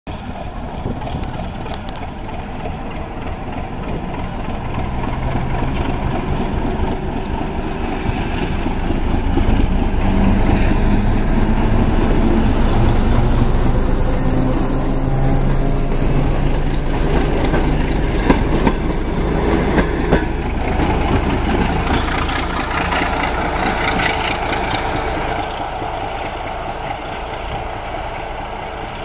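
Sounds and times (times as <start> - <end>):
diesel locomotive engine running: 0.1 - 29.0.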